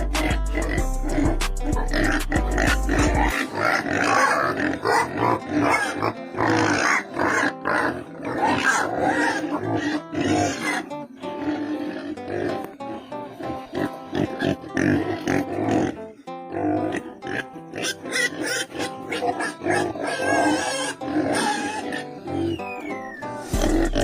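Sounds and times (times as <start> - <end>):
background music: 0.0 - 24.0
pigs grunting: 0.0 - 24.0.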